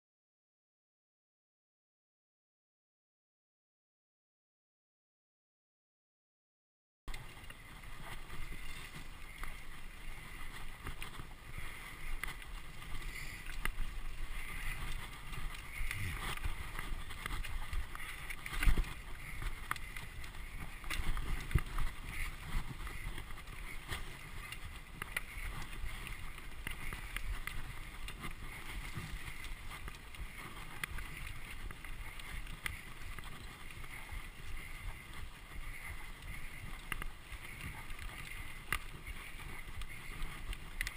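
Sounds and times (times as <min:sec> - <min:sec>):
bike rattling and clicking: 0:07.1 - 0:40.9
tyre and trail noise: 0:07.1 - 0:40.9
wind on microphone: 0:07.3 - 0:40.9.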